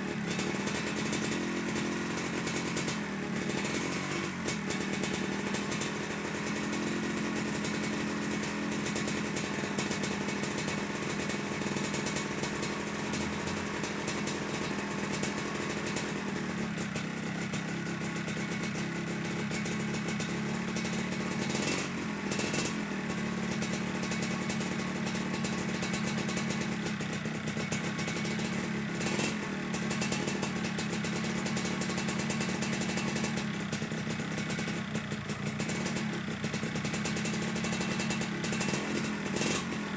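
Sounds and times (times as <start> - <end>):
two-stroke engine idling: 0.0 - 39.9.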